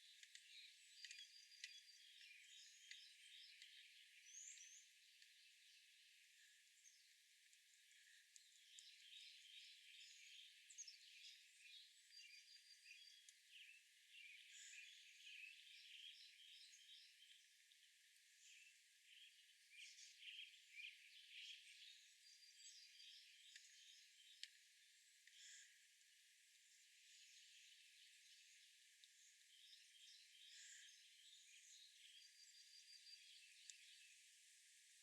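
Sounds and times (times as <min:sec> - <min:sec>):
faint songbirds chirping: 0:00.0 - 0:35.0.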